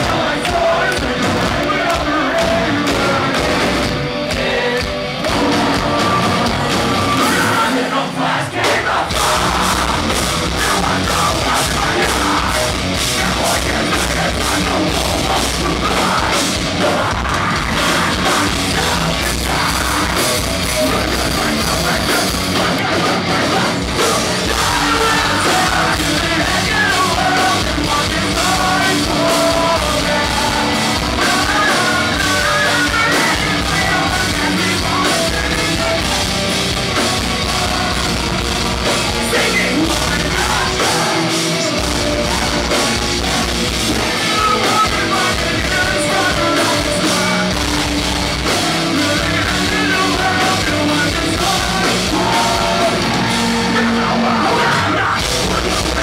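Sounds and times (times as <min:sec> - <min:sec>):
distorted electric guitars: 0:00.0 - 0:56.0
drums: 0:00.0 - 0:56.0
person singing: 0:00.0 - 0:56.0.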